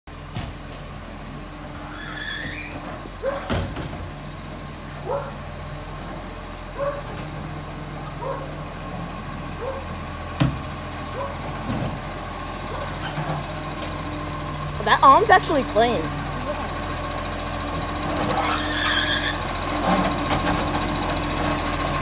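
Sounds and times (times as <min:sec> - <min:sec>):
garbage truck diesel engine: 0:00.1 - 0:22.0.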